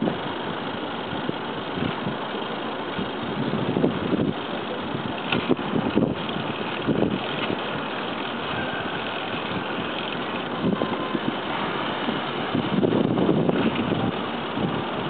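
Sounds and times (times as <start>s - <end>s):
road and wind noise: 0.0s - 15.0s
wind gusts on microphone: 2.9s - 15.0s.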